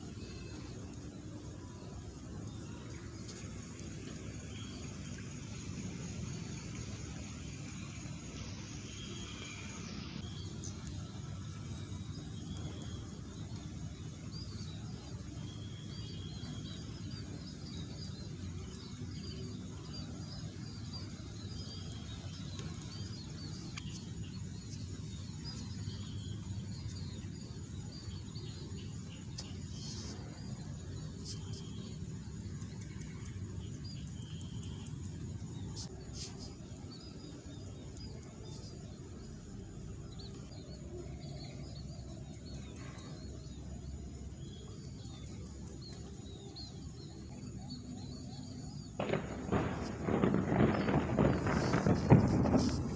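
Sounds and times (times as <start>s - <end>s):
birds chirping: 0.0s - 52.9s
steady low rumble: 0.0s - 52.9s.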